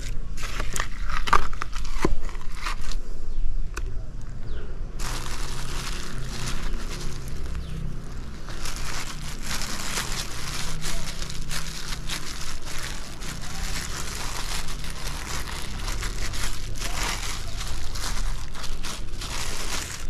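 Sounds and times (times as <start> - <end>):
plastic bag crinkling: 0.0 - 3.0, 5.0 - 20.0
steady low rumble: 0.0 - 20.0.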